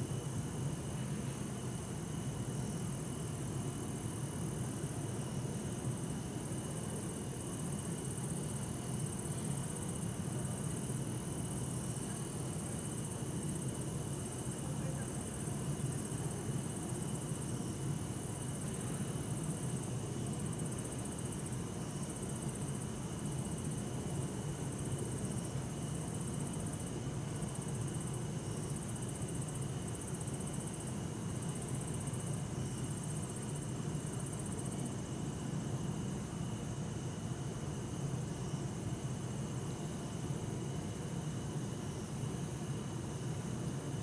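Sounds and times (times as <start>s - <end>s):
crickets chirping: 0.0s - 44.0s.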